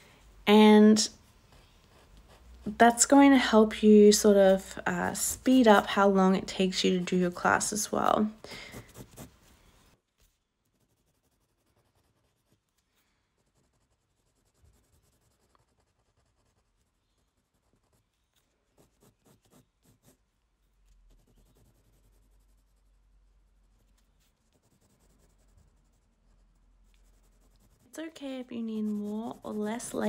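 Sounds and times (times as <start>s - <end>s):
pencil scratching on paper: 1.1s - 3.2s, 7.5s - 20.2s, 20.8s - 30.0s.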